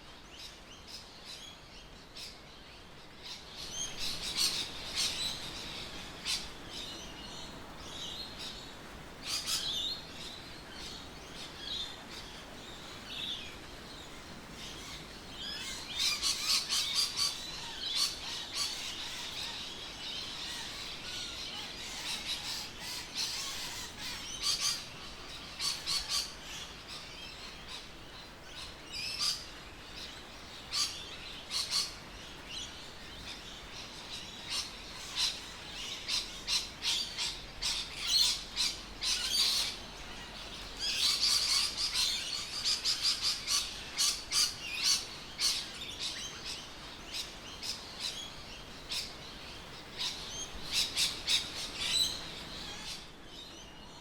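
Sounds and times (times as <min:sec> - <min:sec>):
birds chirping: 0:02.2 - 0:54.0.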